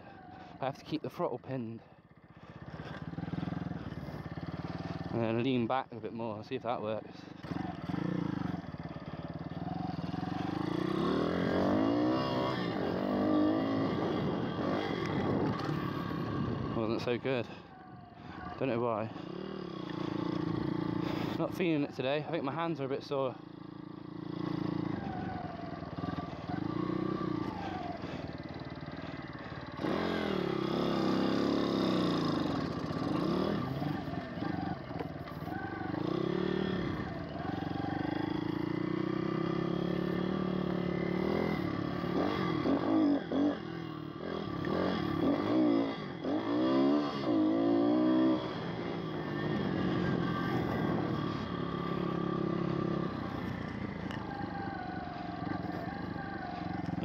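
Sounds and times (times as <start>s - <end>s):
small motorbike engine revving: 2.4s - 5.3s, 7.4s - 21.5s, 23.5s - 57.0s.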